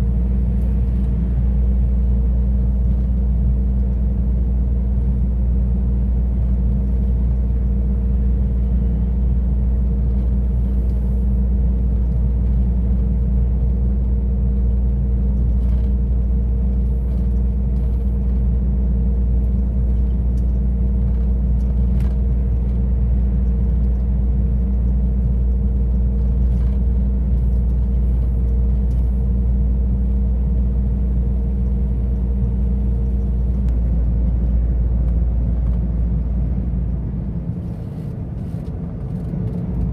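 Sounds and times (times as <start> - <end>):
heavy truck engine and road rumble: 0.0 - 39.9.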